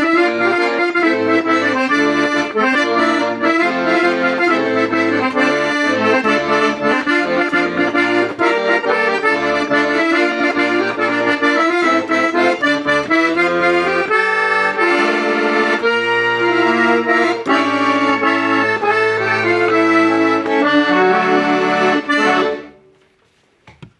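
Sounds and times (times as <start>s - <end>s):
accordion melody: 0.0s - 23.0s.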